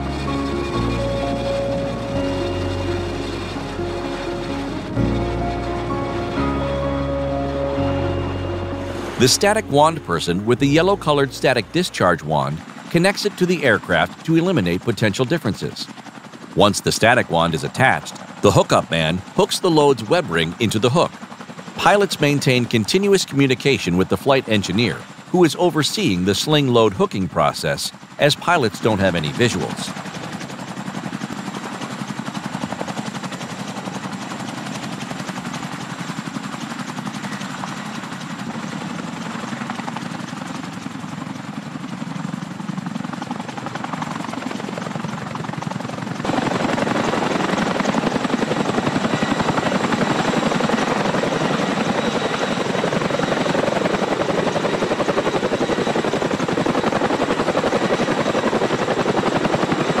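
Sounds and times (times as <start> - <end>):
helicopter rotor noise: 0.0 - 60.0.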